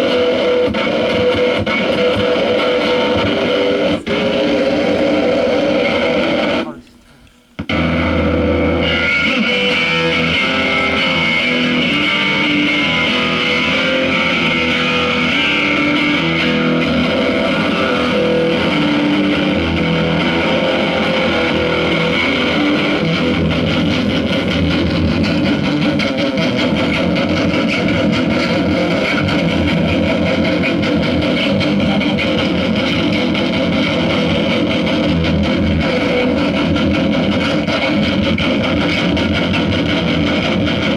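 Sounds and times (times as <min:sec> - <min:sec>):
distorted electric guitar noise: 0:00.0 - 0:40.9.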